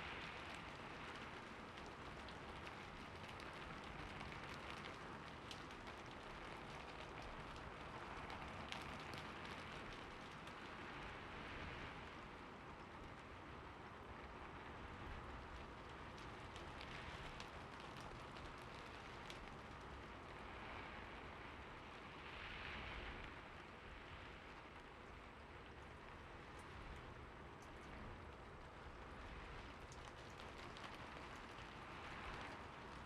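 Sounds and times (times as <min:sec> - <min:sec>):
raindrops ticking: 0:00.0 - 0:14.4, 0:15.2 - 0:20.6, 0:24.6 - 0:33.0
faint steady rain hissing: 0:00.0 - 0:33.0.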